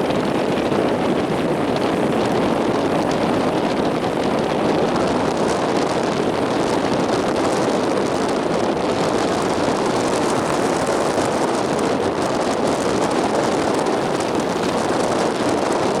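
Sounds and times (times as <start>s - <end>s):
rough sea: 0.0s - 16.0s
strong wind: 0.0s - 16.0s.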